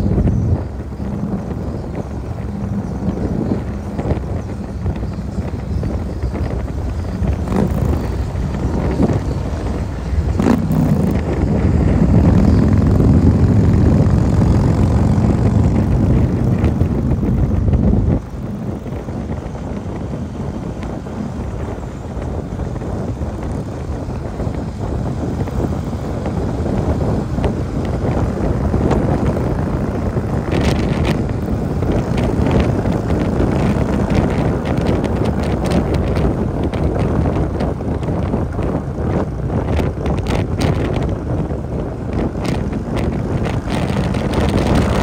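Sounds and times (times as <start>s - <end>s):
motorcycle engine running: 0.0s - 45.0s
wind rushing over microphone: 0.0s - 45.0s.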